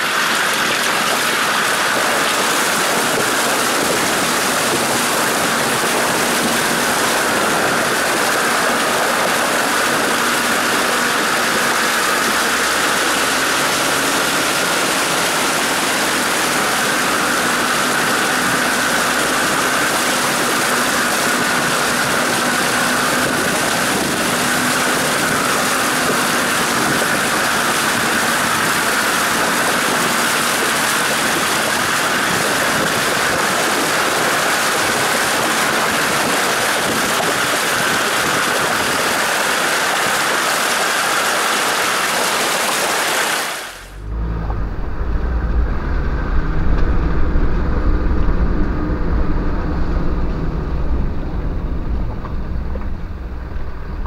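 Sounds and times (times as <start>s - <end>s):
river water splashing: 0.0s - 48.4s
car engine running low: 0.0s - 54.0s.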